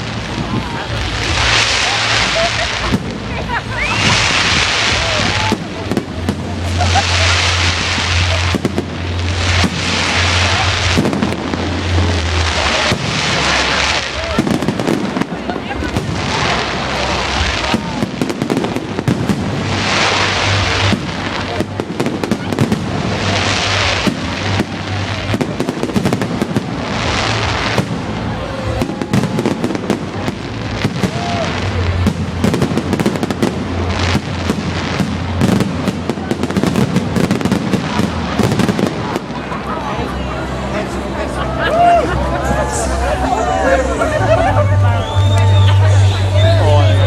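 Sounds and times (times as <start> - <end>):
fireworks bangs and pops: 0.0 - 39.9
hissing crackle of fireworks: 0.0 - 47.0.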